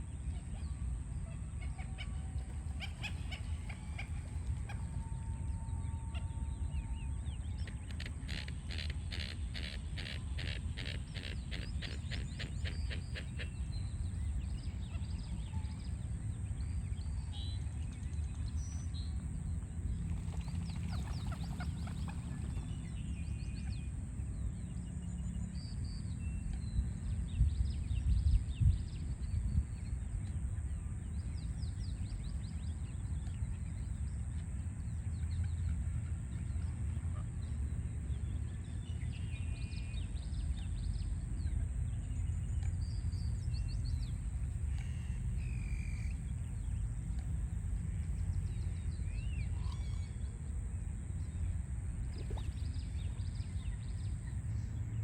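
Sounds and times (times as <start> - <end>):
low rumble of city traffic: 0.0 - 55.0.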